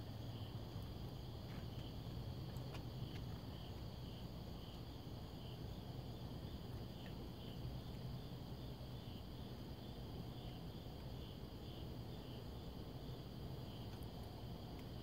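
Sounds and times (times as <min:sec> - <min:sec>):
insect chirping: 0:00.0 - 0:15.0
low steady hum: 0:00.0 - 0:15.0.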